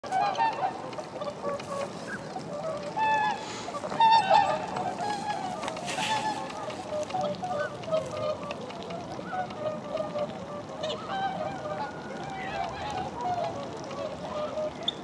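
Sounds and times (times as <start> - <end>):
swans calling: 0.0 - 15.0.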